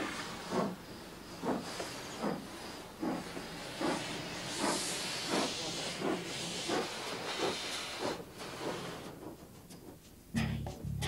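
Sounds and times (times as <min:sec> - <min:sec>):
steam hissing: 0:00.0 - 0:10.3
steam locomotive chuffs: 0:00.0 - 0:11.0.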